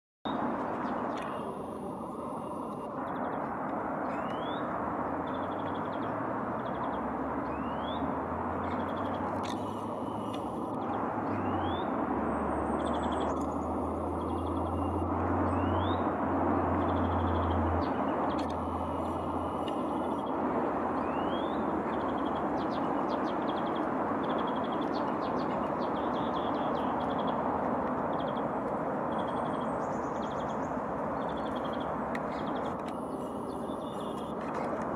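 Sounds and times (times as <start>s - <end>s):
low hum: 0.3s - 34.9s
small songbirds chirping: 0.3s - 34.9s.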